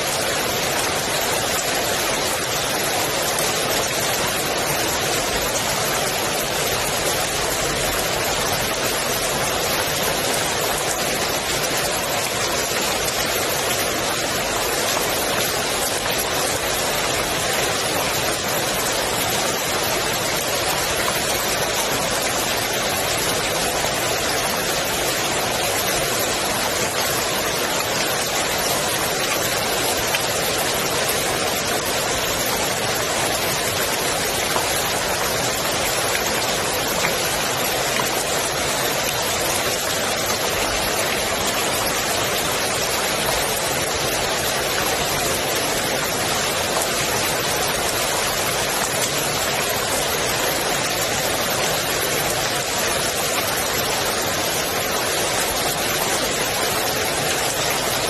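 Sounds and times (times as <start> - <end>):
rain falling on pool water: 0.0 - 58.0.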